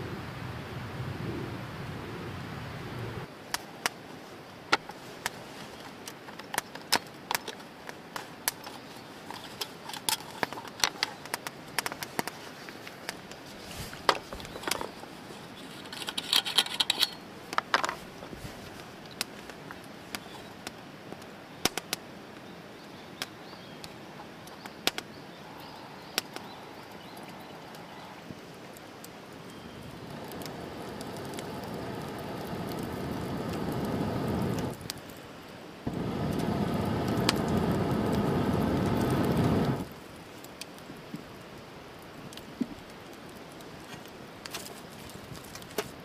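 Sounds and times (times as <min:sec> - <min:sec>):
campfire crackling: 0:03.0 - 0:46.0.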